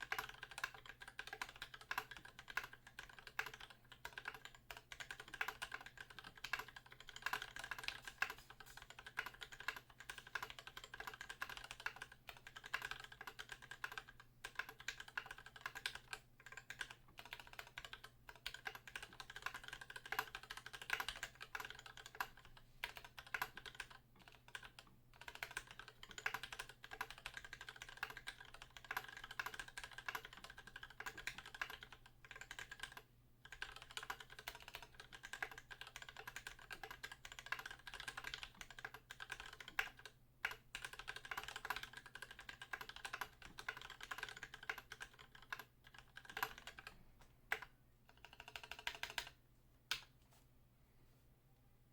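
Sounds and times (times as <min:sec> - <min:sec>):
mechanical keyboard typing: 0:00.0 - 0:50.0.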